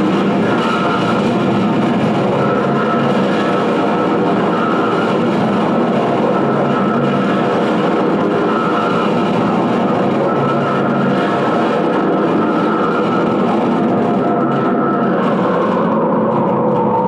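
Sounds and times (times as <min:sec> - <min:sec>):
electronic noise drone: 0:00.0 - 0:17.0.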